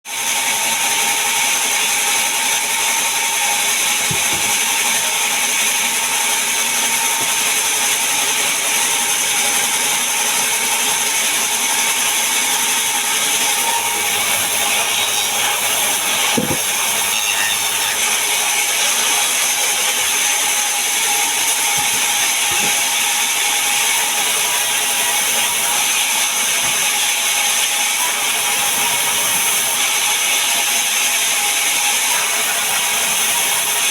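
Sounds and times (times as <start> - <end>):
sawmill saw cutting log: 0.1 - 33.9.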